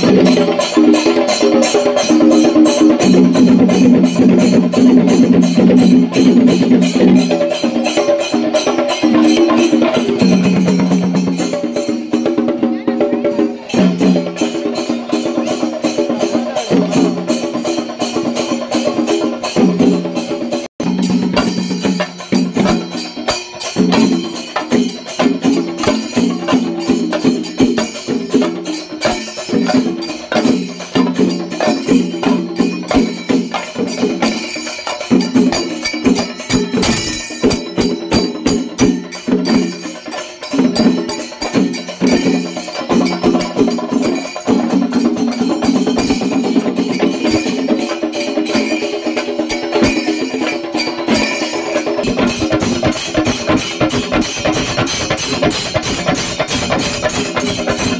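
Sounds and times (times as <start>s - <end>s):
fast sharp percussion strikes: 0.0s - 57.9s.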